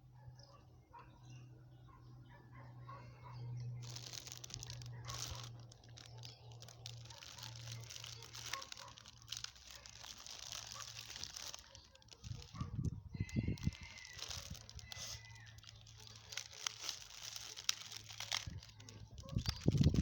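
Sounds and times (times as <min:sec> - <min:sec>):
crinkling and rustling: 0:03.6 - 0:20.0.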